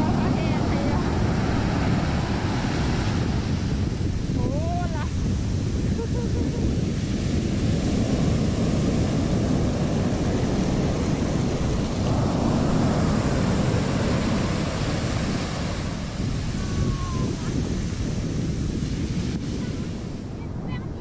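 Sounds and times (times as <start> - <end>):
seawater washing over sand: 0.0 - 20.4
surf: 0.0 - 21.0
wind buffeting microphone: 0.0 - 21.0.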